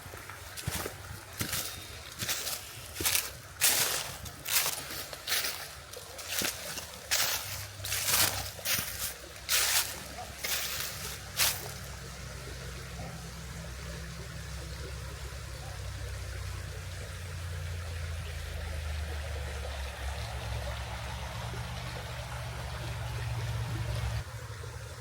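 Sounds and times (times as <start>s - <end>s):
river flowing over stones: 0.0s - 25.0s.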